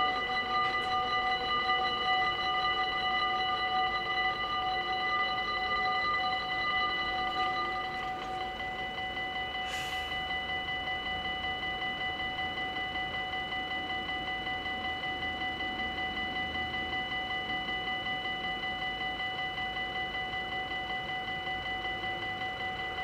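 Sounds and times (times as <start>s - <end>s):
level-crossing warning bells: 0.0s - 23.0s.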